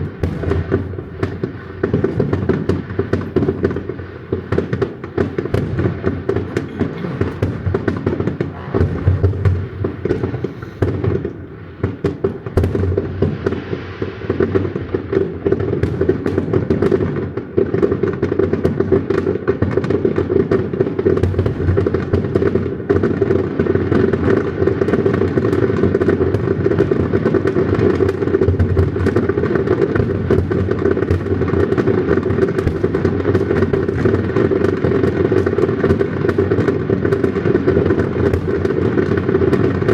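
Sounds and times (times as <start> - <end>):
fireworks booms and bangs: 0.0 - 39.9.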